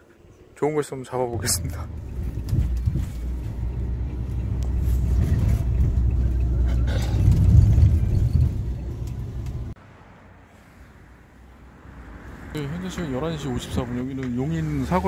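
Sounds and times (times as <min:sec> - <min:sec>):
bus engine and road rumble: 0:01.2 - 0:15.0.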